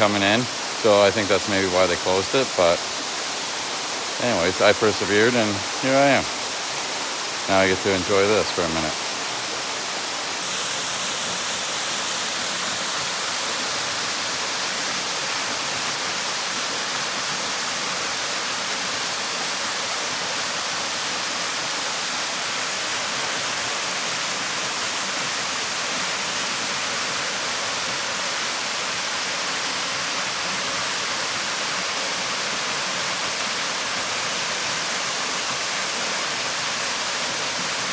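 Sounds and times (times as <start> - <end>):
waterfall pouring: 0.0 - 37.9.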